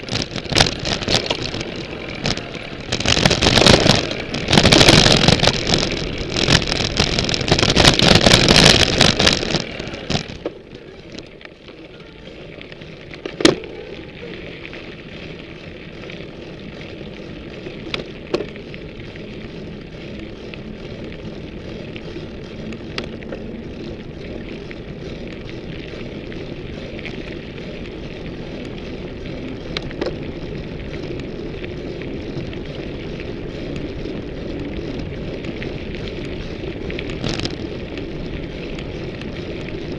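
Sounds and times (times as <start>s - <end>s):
bike rattling: 0.0s - 39.9s
bike tyres rolling on trail: 0.0s - 39.9s
wind: 0.0s - 39.9s.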